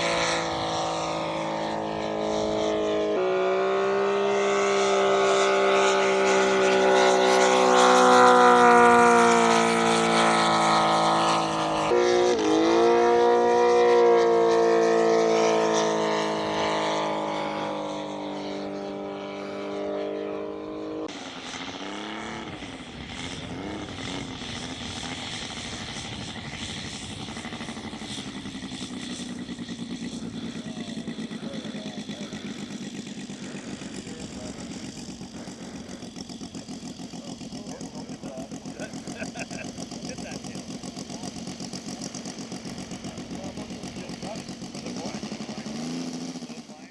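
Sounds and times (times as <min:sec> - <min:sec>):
model airplane engine droning: 0:00.0 - 0:46.9
quieter steady engine: 0:00.0 - 0:46.9.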